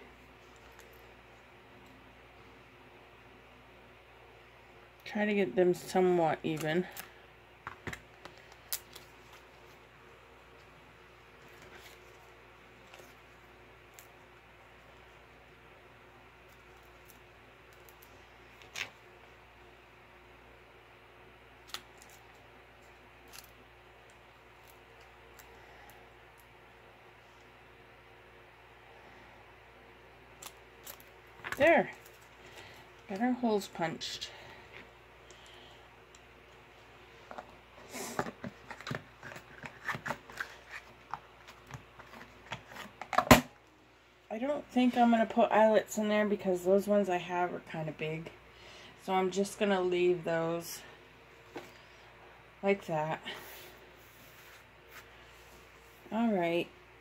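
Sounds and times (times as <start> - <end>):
faint room hum: 0.0 - 57.0.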